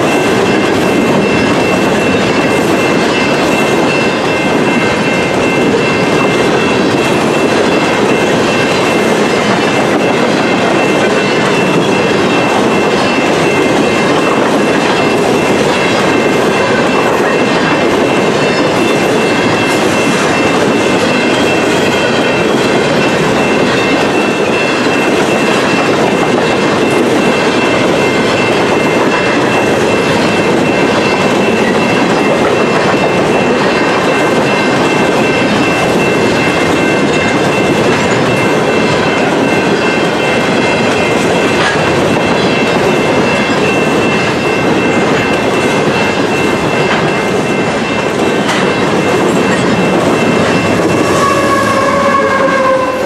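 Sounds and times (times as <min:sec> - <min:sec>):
high-pitched ring: 0:00.0 - 0:53.0
train wheels rumbling on rail: 0:00.0 - 0:53.0.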